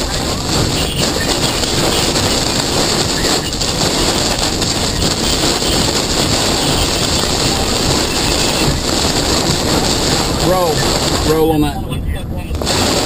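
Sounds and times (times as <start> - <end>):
storm wind rushing: 0.0 - 13.0
vehicle road noise: 0.0 - 13.0.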